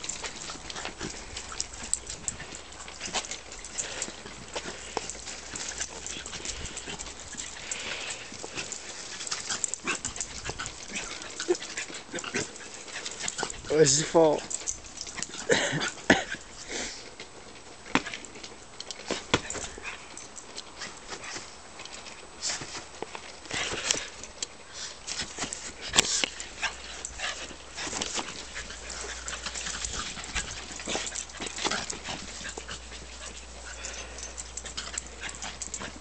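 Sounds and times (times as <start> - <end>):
dog panting: 0.0 - 18.3, 19.0 - 36.0
paws clicking and scuffing: 0.0 - 36.0.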